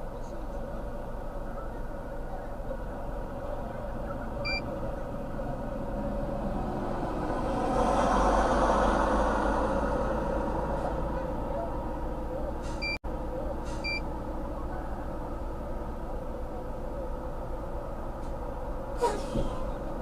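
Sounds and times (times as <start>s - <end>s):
vehicle rumble and road noise: 0.0s - 20.0s.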